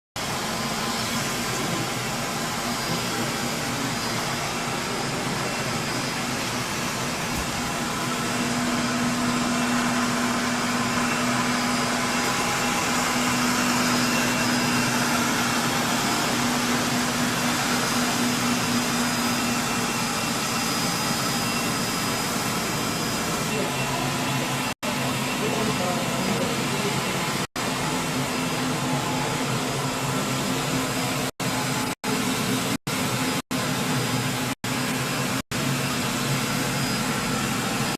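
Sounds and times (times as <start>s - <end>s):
floor scrubber motor whir: 0.2s - 37.9s.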